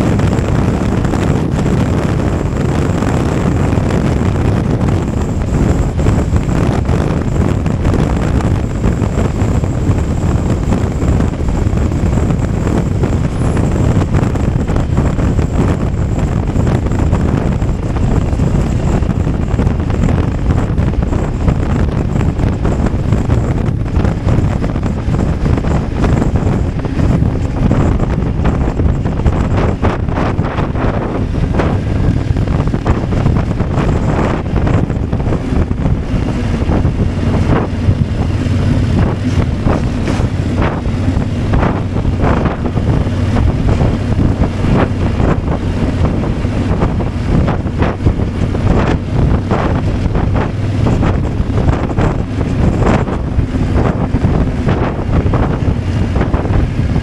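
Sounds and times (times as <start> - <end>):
wind roaring over microphone: 0.0 - 57.0.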